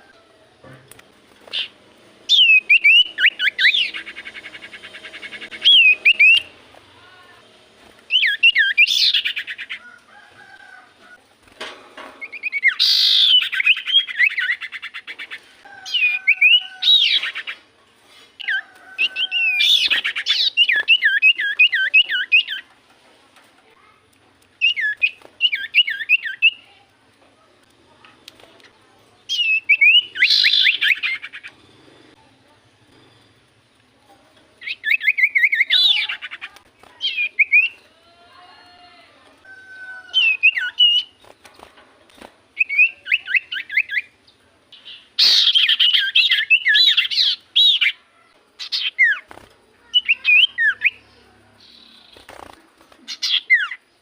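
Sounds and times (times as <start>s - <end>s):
bird chirping: 0.0s - 10.0s, 12.0s - 17.8s, 18.4s - 22.8s, 23.8s - 26.8s, 27.7s - 38.0s, 39.5s - 41.7s, 42.5s - 54.0s.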